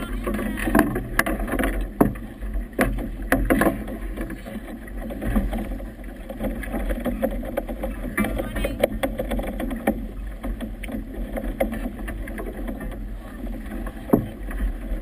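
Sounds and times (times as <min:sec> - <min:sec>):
water slapping against boat hull: 0:00.0 - 0:15.0.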